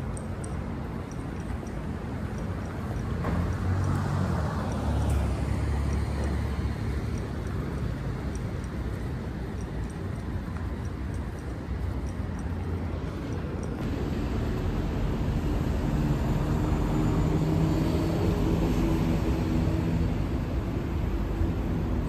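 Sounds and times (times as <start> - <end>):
engine hum with pitched tones: 0.0 - 22.0
vehicle rumble: 0.0 - 22.0.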